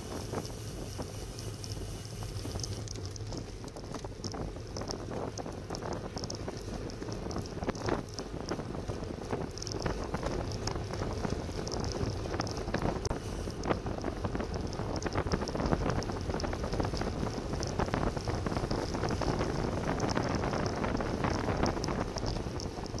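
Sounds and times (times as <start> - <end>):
tyre and road noise: 0.0 - 23.0
wind rushing over microphone: 0.0 - 23.0
small clicks and rattles: 0.2 - 23.0.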